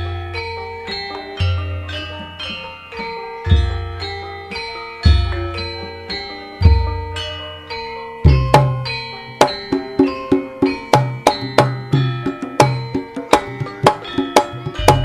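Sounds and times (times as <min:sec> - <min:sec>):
metallophones ringing: 0:00.0 - 0:15.0.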